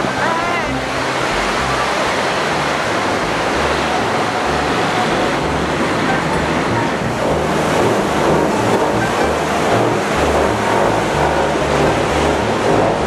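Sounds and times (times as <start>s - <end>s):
low rumbling: 0.0s - 13.0s
wind and water rushing: 0.0s - 13.0s.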